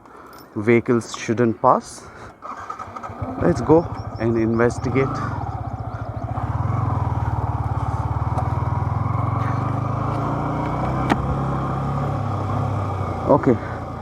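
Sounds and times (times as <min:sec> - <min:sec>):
motorcycle engine running: 0:02.6 - 0:14.0.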